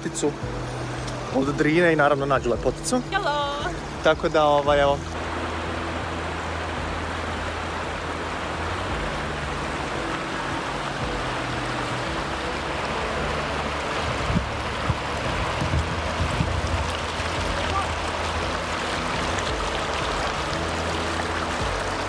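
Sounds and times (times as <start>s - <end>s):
river water rushing over rapids: 0.0s - 22.0s.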